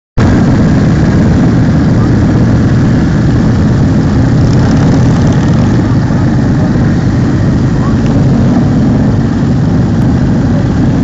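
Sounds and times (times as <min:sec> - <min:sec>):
motorcycle engines running: 0:00.2 - 0:11.0.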